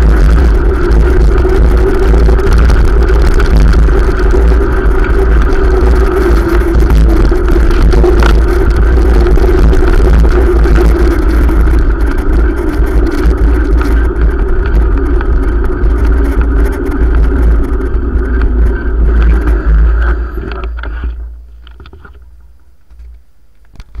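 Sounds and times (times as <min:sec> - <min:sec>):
steady hum: 0:00.0 - 0:24.0
wind rumbling on microphone: 0:00.0 - 0:24.0.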